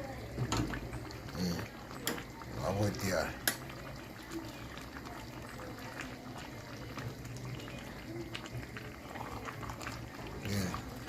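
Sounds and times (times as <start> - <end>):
food sizzling and bubbling in pan: 0.0 - 11.0.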